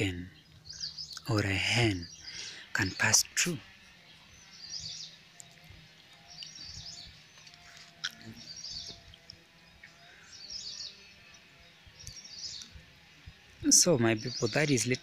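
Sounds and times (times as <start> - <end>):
bird singing chirpy phrases: 0.0 - 15.0.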